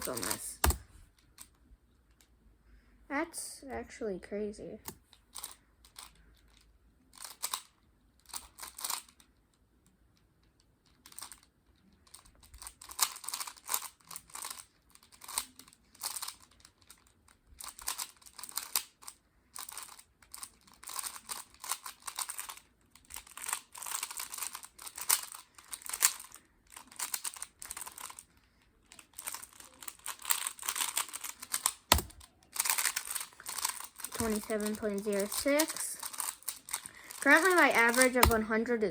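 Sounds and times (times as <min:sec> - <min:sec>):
plastic puzzle cube clicking: 0:00.0 - 0:02.3, 0:04.8 - 0:38.5.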